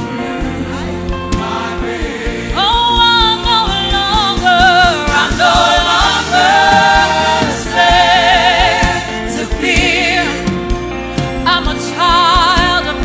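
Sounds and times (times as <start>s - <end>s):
choir singing: 0.0s - 13.0s
live band playing: 0.0s - 13.0s
steady drum beat: 0.0s - 13.0s.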